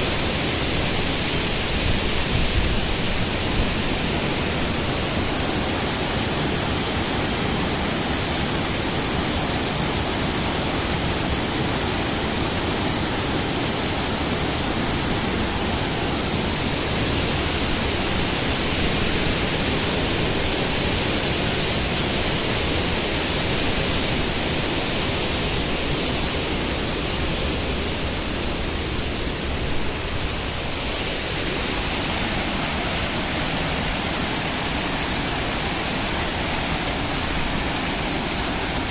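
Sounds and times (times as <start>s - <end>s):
rushing water roar: 0.0s - 38.9s.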